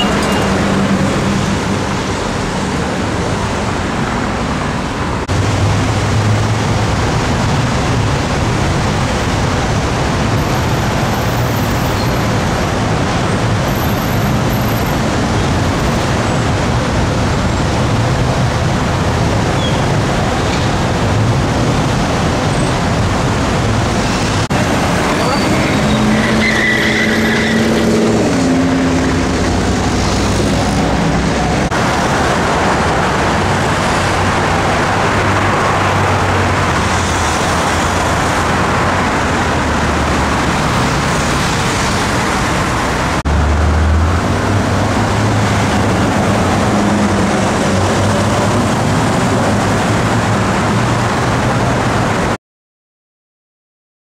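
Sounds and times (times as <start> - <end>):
heavy road traffic: 0.0 - 52.4
sports car engines: 0.0 - 52.4.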